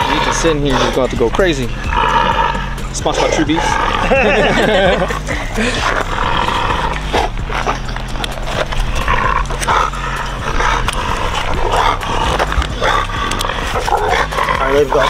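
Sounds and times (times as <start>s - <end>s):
buckles and straps clicking: 0.0s - 15.0s.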